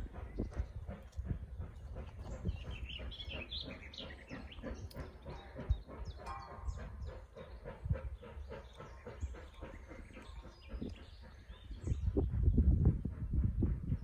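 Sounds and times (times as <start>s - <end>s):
birds singing and chirping: 0.0s - 14.0s.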